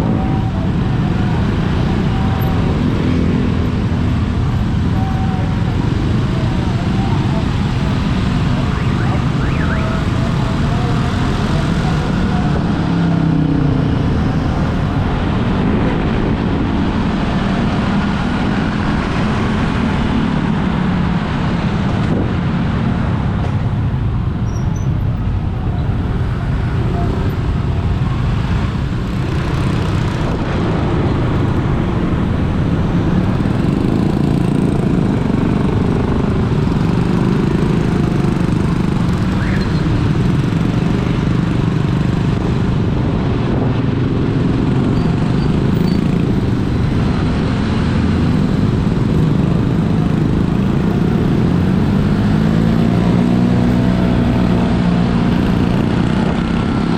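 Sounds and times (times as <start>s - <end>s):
vehicle engine and road noise: 0.0s - 56.9s.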